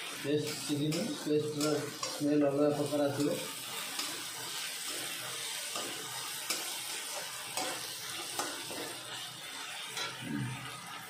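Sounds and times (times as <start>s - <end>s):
metal spatula scraping pan: 0.0s - 10.8s
paste sizzling in oil: 0.0s - 11.0s.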